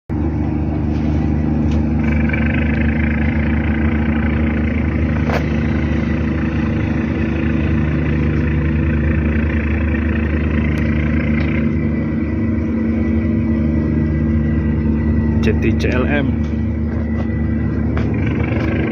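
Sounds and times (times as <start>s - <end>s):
high machinery whine: 0.1s - 18.9s
ship diesel engine drone: 0.1s - 18.9s.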